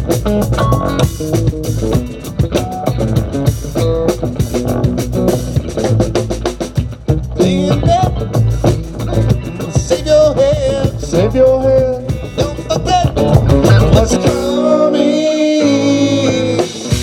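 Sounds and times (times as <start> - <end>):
bass guitar: 0.0 - 17.0
drum kit beat: 0.0 - 17.0
guitar lines: 0.0 - 17.0.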